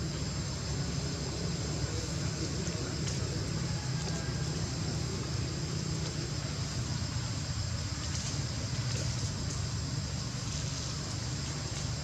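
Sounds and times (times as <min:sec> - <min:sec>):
constant high hiss: 0:00.0 - 0:12.0.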